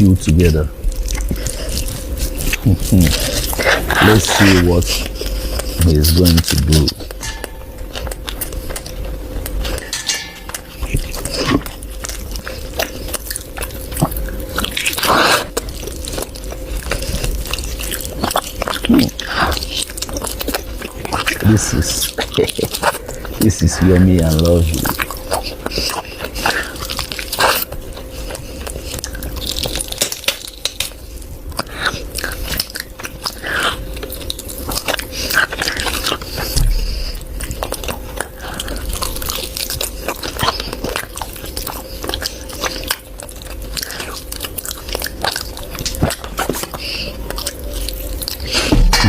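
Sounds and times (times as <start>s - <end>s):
person chewing with wet mouth clicks: 0.6s - 23.4s, 24.1s - 49.0s.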